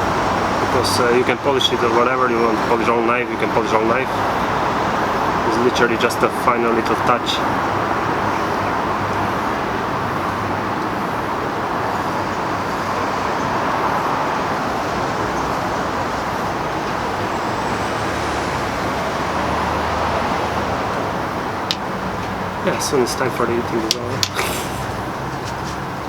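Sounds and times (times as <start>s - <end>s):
road traffic noise: 0.0s - 26.0s
vehicle engine hum passing: 0.0s - 26.0s.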